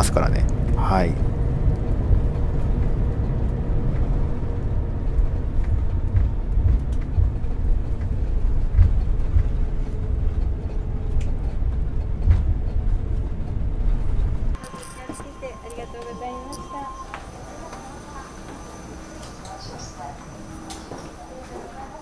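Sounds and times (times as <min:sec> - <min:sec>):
aircraft wheels rumbling: 0:00.0 - 0:22.0.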